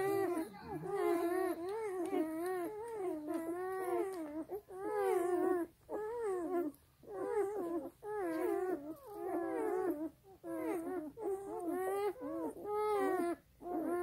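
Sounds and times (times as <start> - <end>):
puppy whining cries: 0.0 - 14.0.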